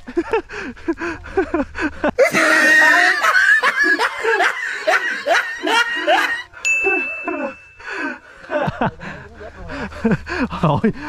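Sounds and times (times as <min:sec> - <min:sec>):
people laughing loudly: 0:00.0 - 0:11.0.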